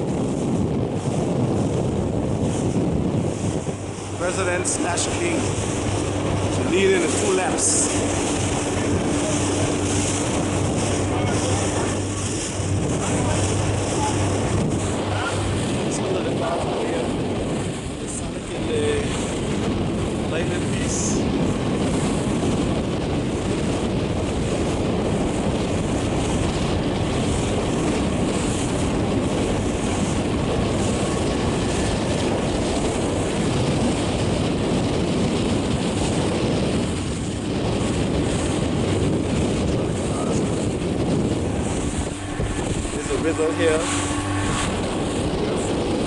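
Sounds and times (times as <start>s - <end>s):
rushing water: 0.0s - 46.0s
wind buffeting microphone: 0.0s - 46.0s.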